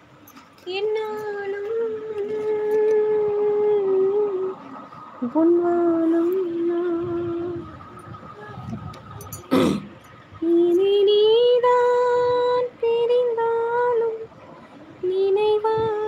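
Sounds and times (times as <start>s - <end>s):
long held vocal notes: 1.1s - 16.0s.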